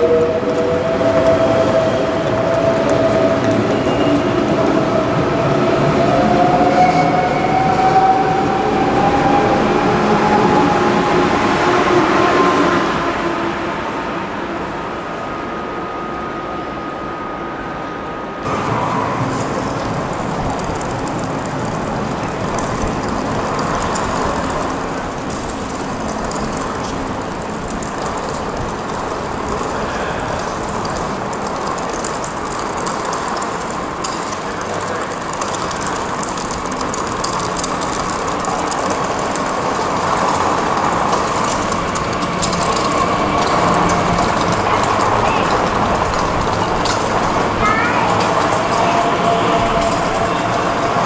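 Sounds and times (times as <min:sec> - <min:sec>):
electric train arriving: 0:00.0 - 0:51.0
train wheels on rails: 0:00.0 - 0:51.0.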